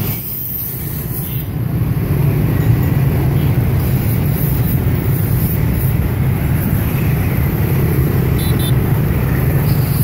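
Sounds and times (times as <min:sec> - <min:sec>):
motor-scooter traffic passing: 0:00.0 - 0:10.0.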